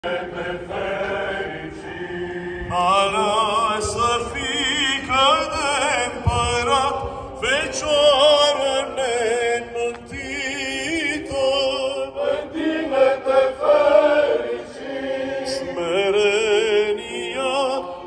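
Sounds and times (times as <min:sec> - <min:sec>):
choir chanting over a drone: 0:00.0 - 0:18.0.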